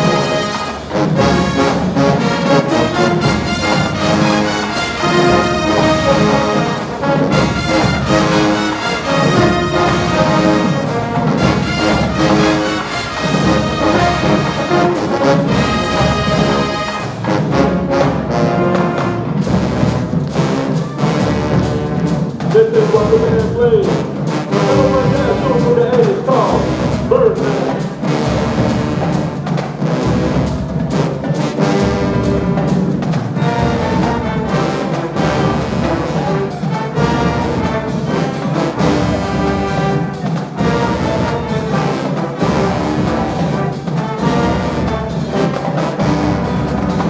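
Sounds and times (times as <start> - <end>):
brass section chords: 0.0 - 47.0
drumline strikes: 0.0 - 47.0.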